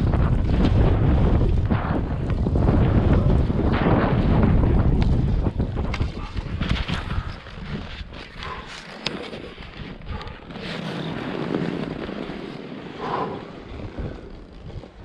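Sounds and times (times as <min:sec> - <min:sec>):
skis scraping through snow: 0:00.0 - 0:15.0
wind on microphone: 0:00.0 - 0:15.0.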